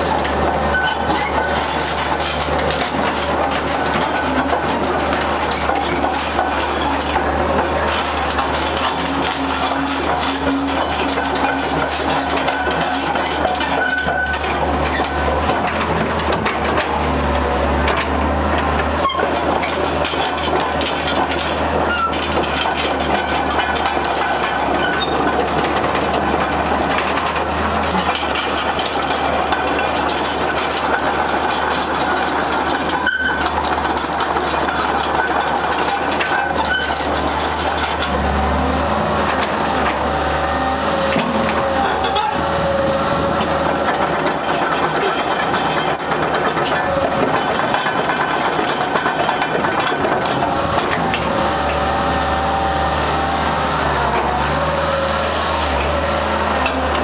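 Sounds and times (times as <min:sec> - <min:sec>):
excavator diesel engine: 0:00.0 - 0:57.0
steel tracks clanking: 0:00.0 - 0:57.0.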